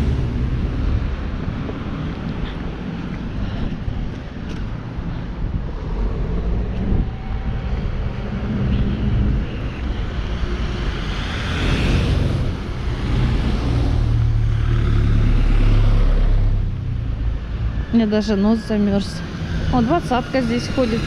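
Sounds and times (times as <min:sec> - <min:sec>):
heavy engine low drone: 0:00.0 - 0:21.0
vehicles driving by: 0:00.0 - 0:21.0.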